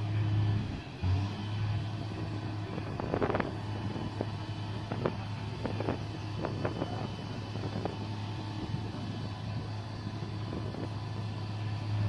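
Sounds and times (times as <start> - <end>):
crane engine humming: 0.0 - 12.0.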